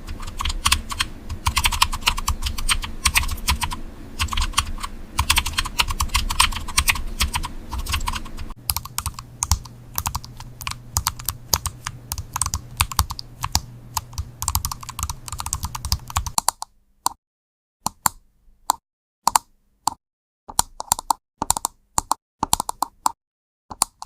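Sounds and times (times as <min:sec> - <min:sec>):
keyboard typing: 0:00.0 - 0:16.7, 0:17.9 - 0:24.0.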